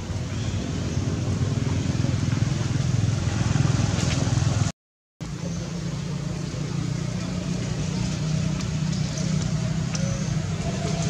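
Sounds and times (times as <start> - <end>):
low rumble of outdoor background: 0.0 - 11.0.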